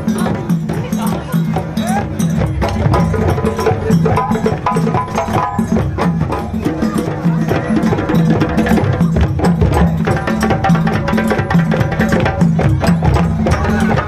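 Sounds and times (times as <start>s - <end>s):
percussion ensemble drumming: 0.0s - 14.0s.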